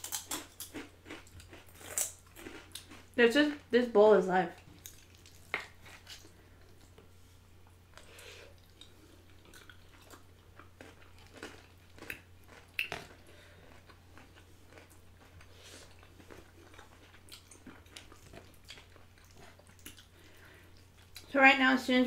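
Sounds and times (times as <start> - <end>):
mouth chewing food: 0.0 - 3.6, 4.5 - 21.3.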